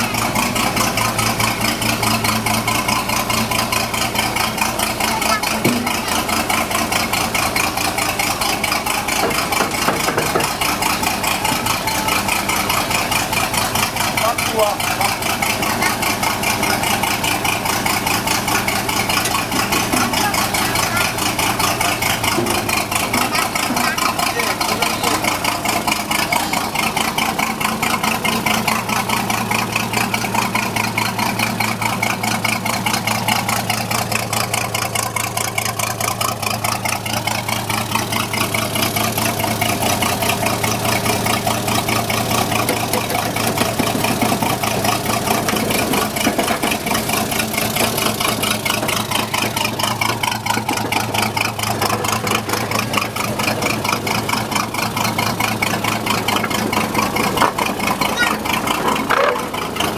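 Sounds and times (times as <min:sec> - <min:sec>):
locomotive engine exhaust pulses: 0:00.0 - 0:59.9.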